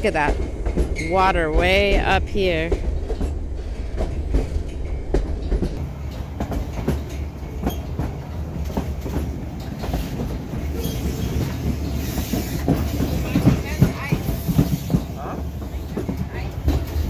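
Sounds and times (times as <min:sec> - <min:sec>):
train rumbling on track: 0:00.0 - 0:17.0
wheels clicking and clacking: 0:00.1 - 0:17.0.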